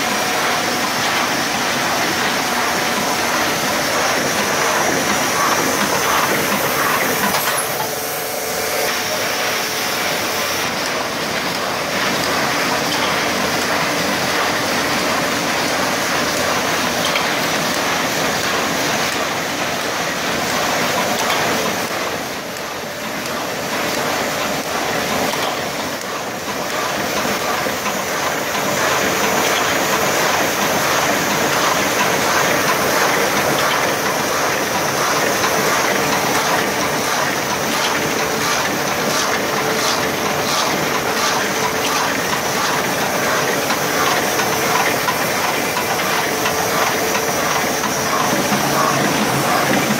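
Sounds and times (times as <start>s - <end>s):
die-cutting press running: 0.0s - 49.9s.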